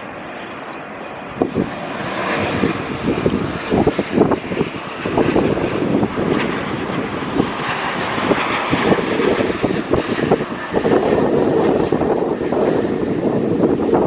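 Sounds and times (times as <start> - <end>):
jet engine rush: 0.0 - 14.0
wind buffeting microphone: 0.0 - 14.0.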